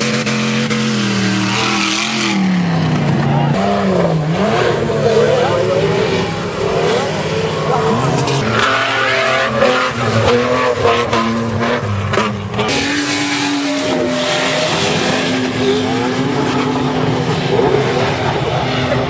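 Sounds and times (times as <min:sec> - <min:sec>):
engines revving hard: 0:00.0 - 0:19.0.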